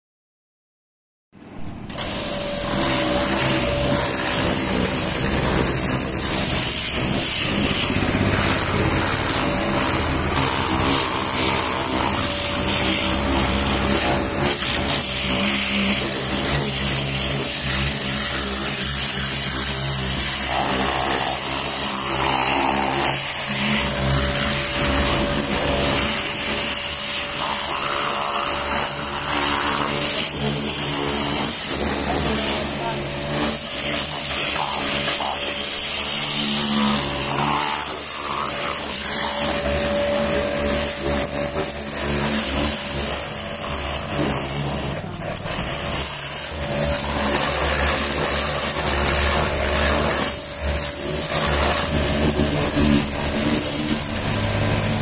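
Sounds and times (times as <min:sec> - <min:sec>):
pressure washer pump humming: 0:01.4 - 0:55.0
water jet spraying on car: 0:01.7 - 0:55.0.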